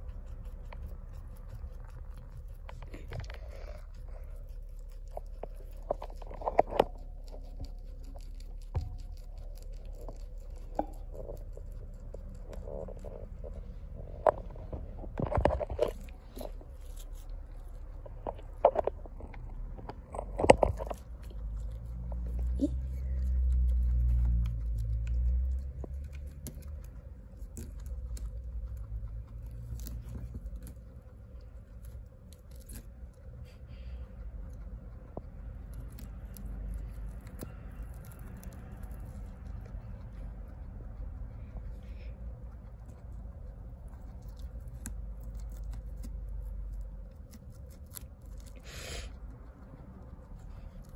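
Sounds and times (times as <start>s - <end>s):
low rumble: 0.0s - 50.9s
pet crunching lettuce: 0.0s - 50.9s.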